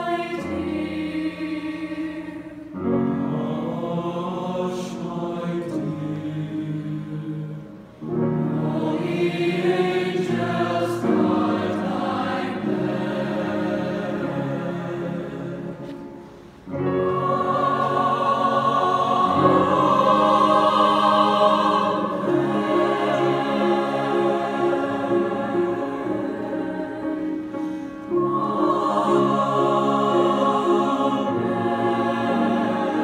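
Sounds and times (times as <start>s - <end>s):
choir singing held chords: 0.0s - 33.0s.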